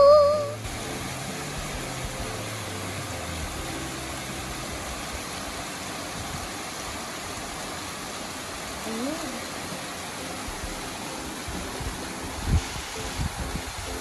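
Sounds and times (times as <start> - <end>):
waterfall pouring into pool: 0.0 - 14.0.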